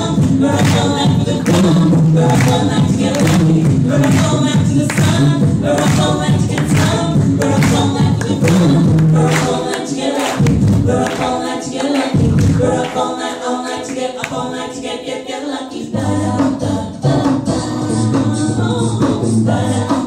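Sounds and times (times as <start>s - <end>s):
beatboxed percussion: 0.0s - 14.9s, 15.7s - 20.0s
a cappella group singing: 0.0s - 20.0s.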